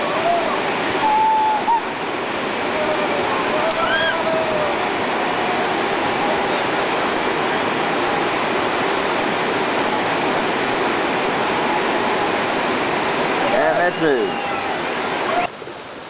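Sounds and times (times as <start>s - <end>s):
river rapids rushing: 0.0s - 16.0s.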